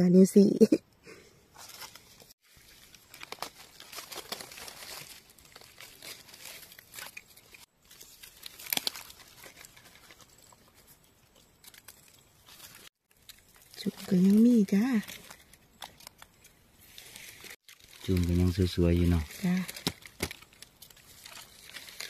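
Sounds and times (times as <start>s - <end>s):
dry leaf litter rustling and crackling: 1.6s - 22.0s.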